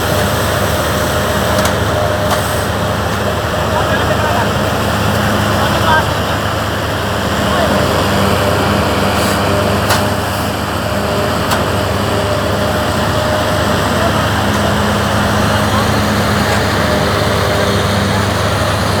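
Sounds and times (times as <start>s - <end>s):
baler machine humming: 0.0s - 19.0s.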